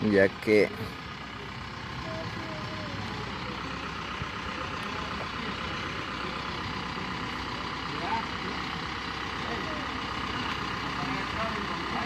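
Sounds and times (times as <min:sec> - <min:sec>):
large vehicle engine running: 0:00.0 - 0:12.0
street background noise: 0:00.0 - 0:12.0.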